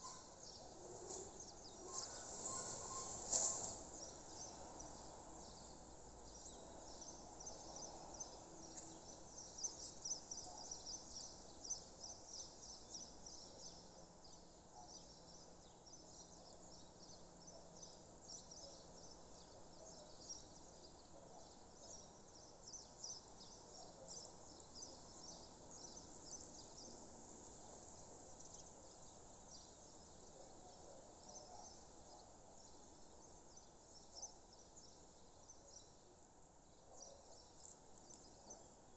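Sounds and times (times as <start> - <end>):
birds chirping and twittering: 0.0 - 36.0
soft steady hiss: 0.0 - 38.9.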